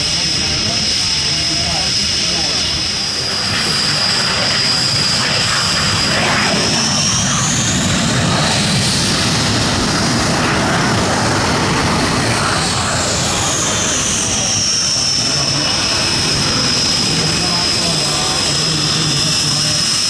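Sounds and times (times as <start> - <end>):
jet engine turbine whine: 0.0 - 20.0.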